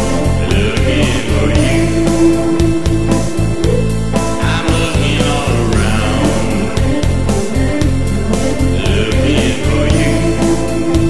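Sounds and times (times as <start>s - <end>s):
song with steady drum beat: 0.0s - 11.0s.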